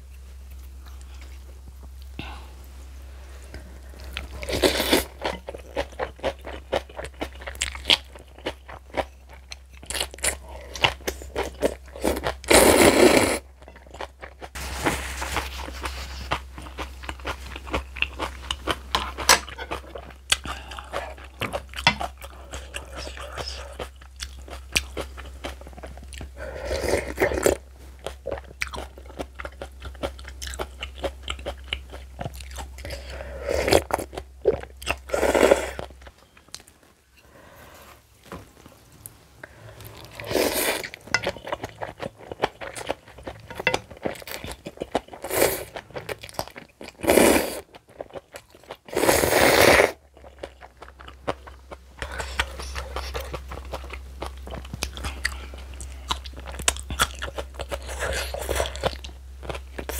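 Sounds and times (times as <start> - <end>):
crunching and chewing: 3.6 - 36.8, 39.8 - 49.0, 49.8 - 59.9.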